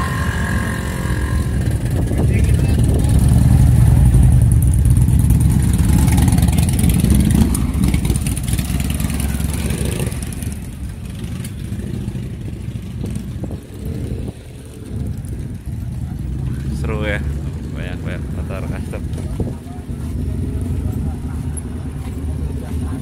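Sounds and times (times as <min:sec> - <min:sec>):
motorcycles riding past: 0:00.0 - 0:23.0.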